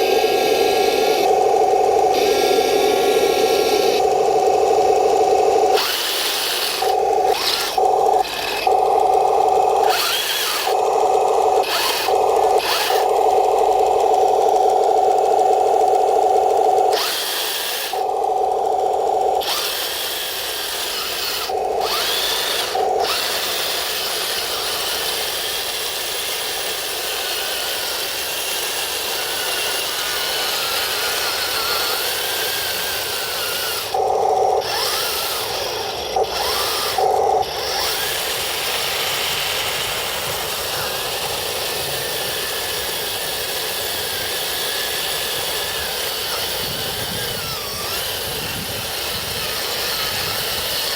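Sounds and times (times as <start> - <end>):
electric motor whine: 0.0 - 50.9.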